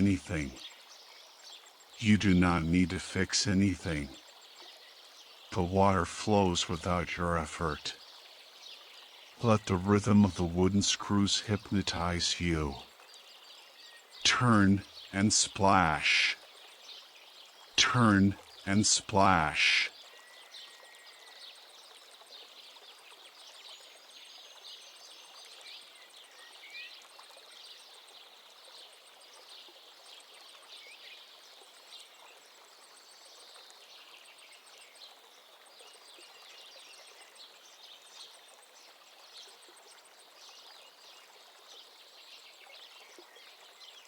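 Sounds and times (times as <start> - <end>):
running water: 0.0 - 44.0.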